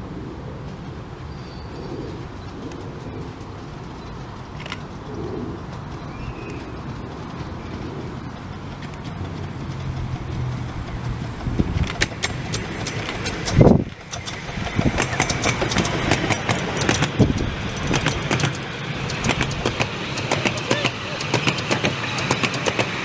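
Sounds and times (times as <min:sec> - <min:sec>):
miniature steam locomotive rumble: 0:00.0 - 0:23.0
wheels clicking over rail joints: 0:00.0 - 0:23.0.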